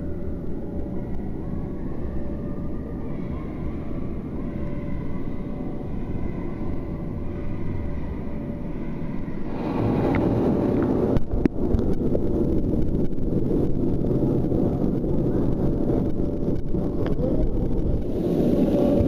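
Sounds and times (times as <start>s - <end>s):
faint steady hum: 0.0s - 19.0s
indoor swimming pool rumble: 0.0s - 19.0s.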